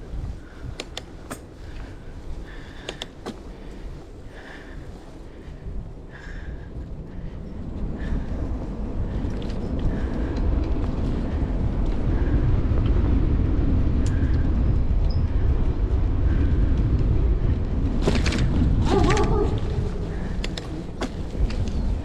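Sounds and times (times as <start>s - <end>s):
bicycle rattling: 0.0s - 22.0s
bicycle tyre rumble: 0.0s - 22.0s
wind buffeting microphone: 0.0s - 22.0s.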